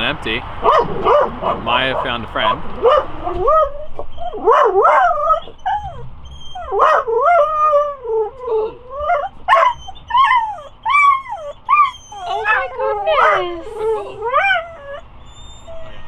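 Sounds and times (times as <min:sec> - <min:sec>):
dog whining and yipping: 0:02.8 - 0:16.0.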